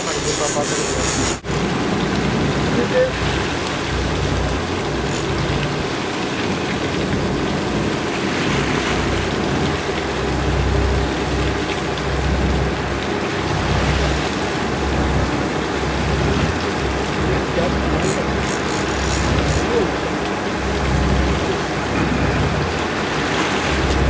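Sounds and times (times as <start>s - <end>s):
boat engine rumbling: 0.0s - 24.0s
water rushing along hull: 0.0s - 24.0s.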